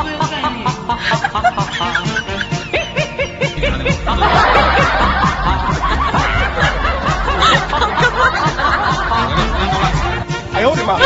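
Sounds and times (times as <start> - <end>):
background music with low beat: 0.0 - 11.0
laugh track: 0.0 - 11.0.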